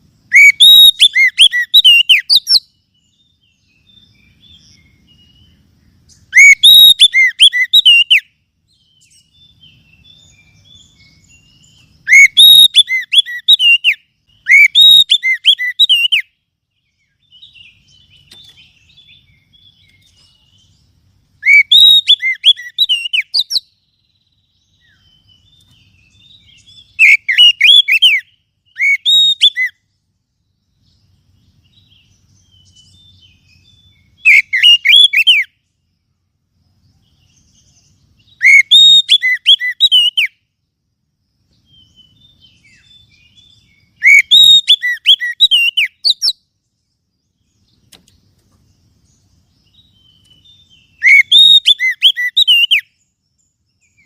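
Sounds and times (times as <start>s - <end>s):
magpie-robin singing: 0.0s - 29.9s, 30.5s - 35.7s, 37.0s - 40.5s, 41.6s - 54.0s.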